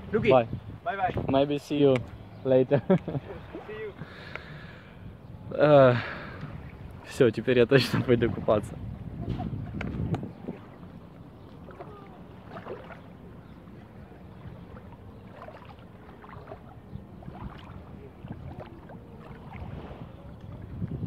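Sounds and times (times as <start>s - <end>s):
wind rumble on microphone: 0.0s - 21.0s
wading splashes in sea water: 1.9s - 4.8s, 5.8s - 21.0s.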